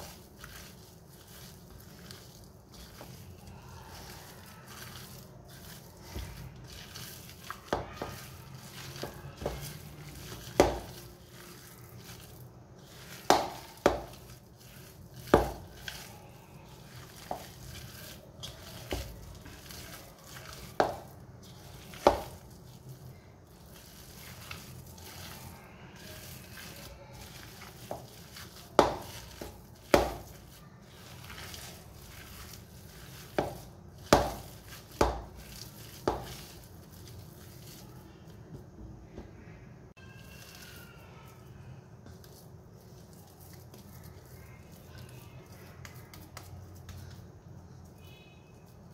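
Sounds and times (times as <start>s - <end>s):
hands kneading moist mixture: 0.0s - 48.9s.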